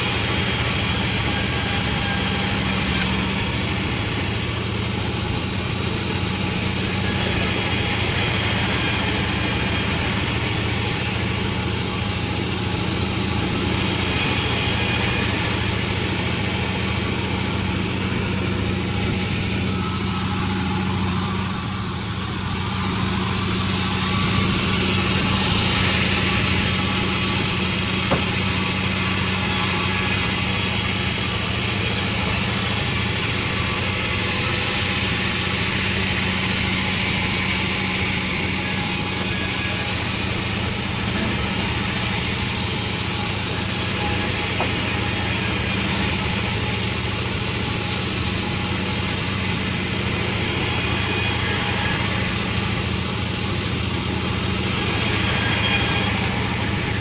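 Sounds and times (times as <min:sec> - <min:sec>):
saw hissing through wood: 0:00.0 - 0:57.0
sawmill engine hum: 0:00.0 - 0:57.0.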